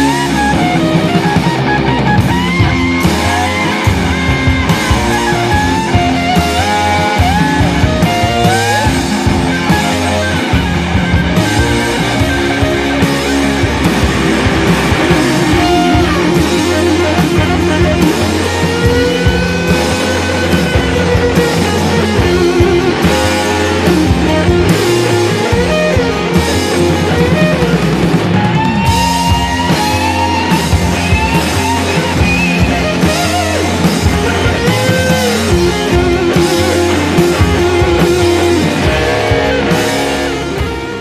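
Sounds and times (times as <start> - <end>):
rock music with sliding guitar: 0.0 - 41.0
steady drum beat: 0.0 - 41.0.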